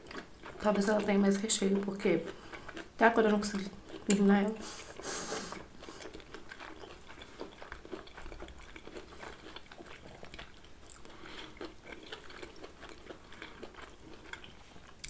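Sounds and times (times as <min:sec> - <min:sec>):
people chewing pizza: 0:00.0 - 0:15.0
mouth clicks and smacks: 0:02.6 - 0:15.0.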